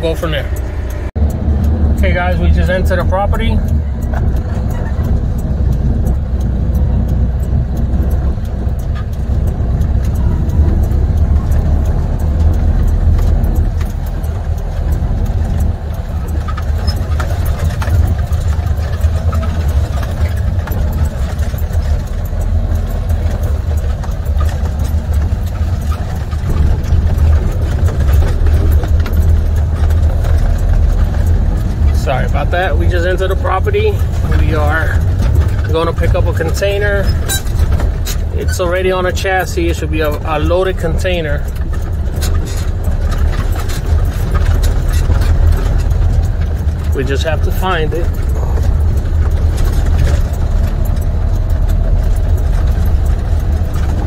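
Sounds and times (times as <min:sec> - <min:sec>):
diesel truck engine rumble: 0:00.0 - 0:54.0.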